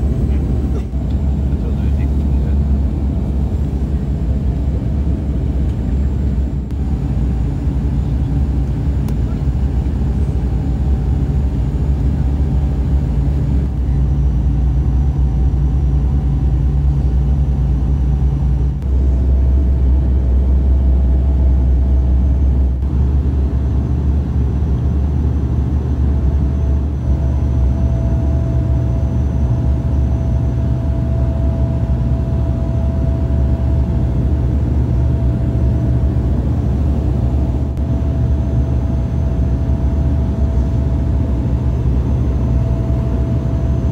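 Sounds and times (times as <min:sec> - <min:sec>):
constant hum: 0:00.0 - 0:43.9
turboprop engine drone: 0:00.0 - 0:43.9.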